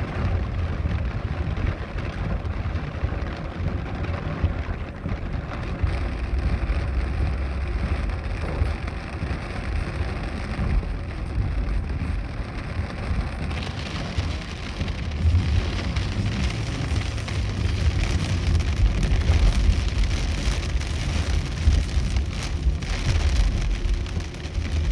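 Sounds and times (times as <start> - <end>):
heavy rain pouring: 0.0 - 24.9.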